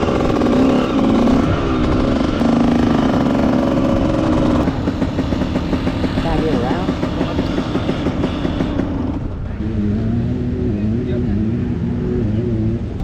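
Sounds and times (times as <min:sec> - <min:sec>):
two-stroke dirt bike engine revving: 0:00.0 - 0:13.0.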